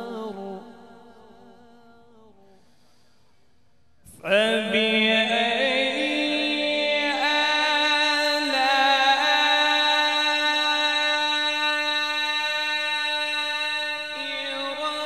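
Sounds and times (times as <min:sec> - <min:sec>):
man reciting melodically: 0:00.0 - 0:02.3, 0:04.1 - 0:15.0.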